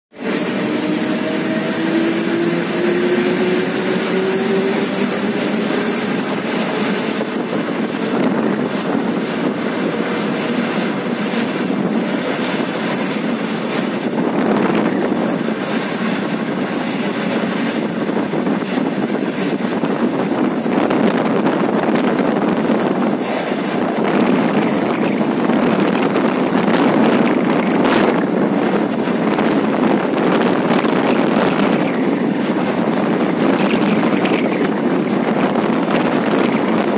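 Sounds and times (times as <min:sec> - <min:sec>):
train wheels rumbling: 0:00.1 - 0:36.9.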